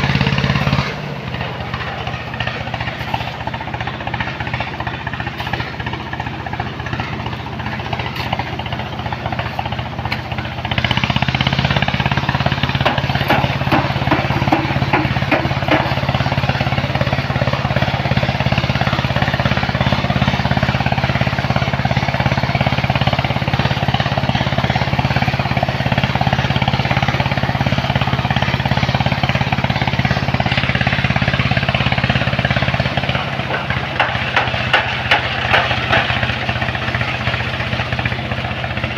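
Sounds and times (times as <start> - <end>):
machine engine rattling hum: 0.0 - 38.9.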